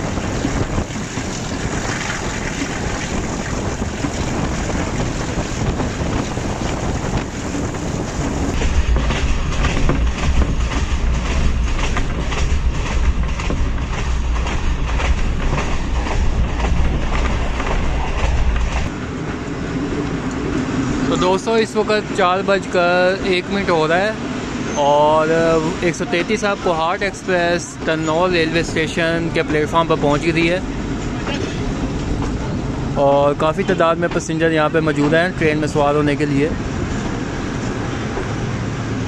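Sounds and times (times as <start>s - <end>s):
wheels clattering over rails: 0.0s - 18.9s, 24.7s - 39.0s
heavy low rumble: 0.0s - 39.0s
train wheel and wind noise: 0.0s - 39.0s.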